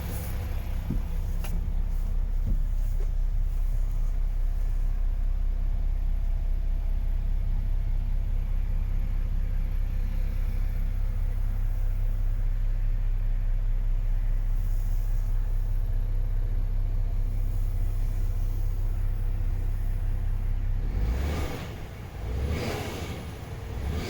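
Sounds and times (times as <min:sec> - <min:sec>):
diesel truck engine rumbling: 0:00.0 - 0:24.0.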